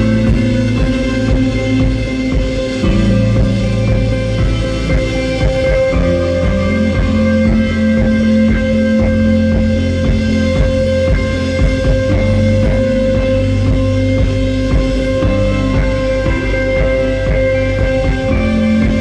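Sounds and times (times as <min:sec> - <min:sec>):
electric guitar notes picked: 0:00.0 - 0:19.0
instrumental rock music: 0:00.0 - 0:19.0.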